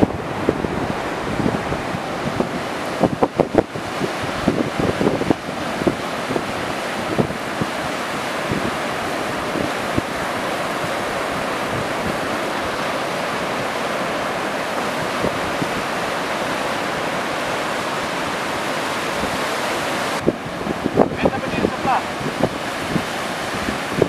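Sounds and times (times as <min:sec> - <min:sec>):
ocean surf breaking: 0:00.0 - 0:24.0
wind on microphone: 0:00.0 - 0:24.0.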